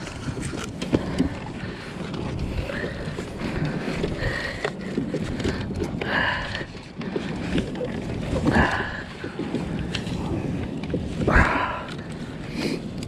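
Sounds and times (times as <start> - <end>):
water splashes: 0.0 - 12.5
water sloshing and dripping: 0.0 - 12.6.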